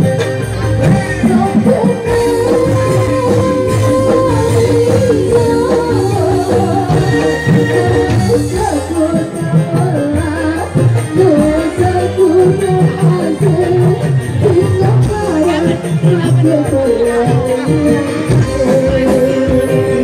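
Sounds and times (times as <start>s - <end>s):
repeating percussion: 0.0s - 20.0s
wavering melody line: 0.0s - 20.0s.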